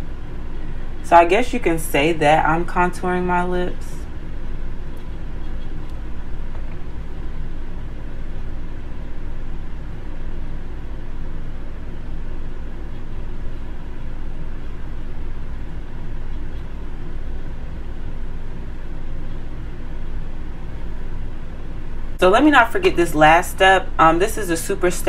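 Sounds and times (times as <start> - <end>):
low machine rumble with hum: 0.0 - 25.0.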